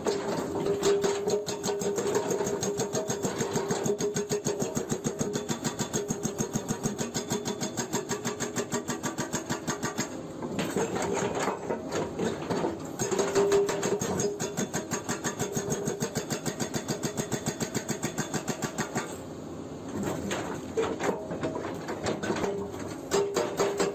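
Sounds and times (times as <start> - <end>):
hydraulic breaker hammering rock: 0.0 - 19.2, 20.0 - 23.9.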